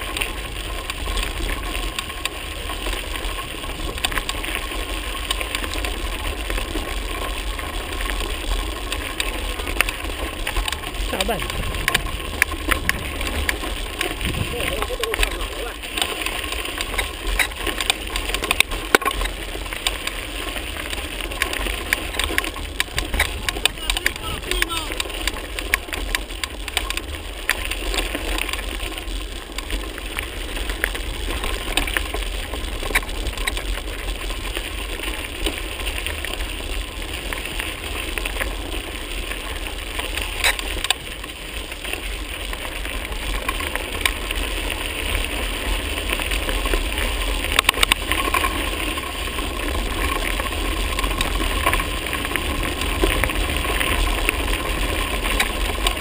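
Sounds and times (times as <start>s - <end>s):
bike tyres crunching on gravel: 0.0s - 56.0s
wind rumble on microphone: 0.0s - 56.0s.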